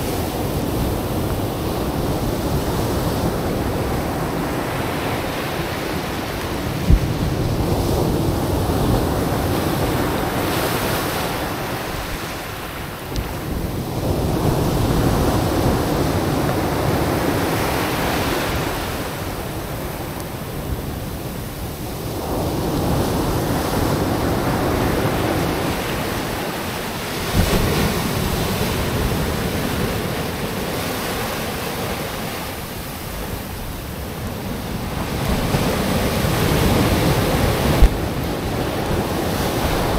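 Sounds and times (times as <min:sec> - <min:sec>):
ocean surf breaking on beach: 0:00.0 - 0:39.9
wind noise on microphone: 0:00.0 - 0:39.9.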